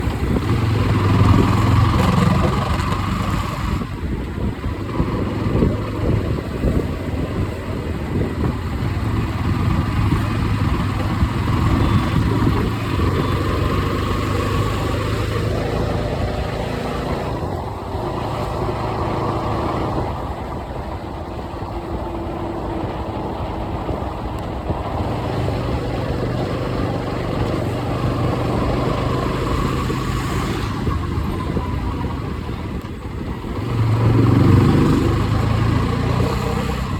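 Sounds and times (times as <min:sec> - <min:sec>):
motorcycle engine revving: 0:00.0 - 0:20.7, 0:21.3 - 0:36.9.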